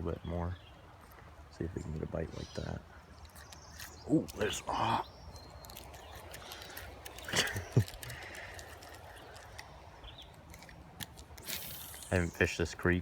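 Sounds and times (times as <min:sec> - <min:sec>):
creek water running: 0:01.2 - 0:13.0.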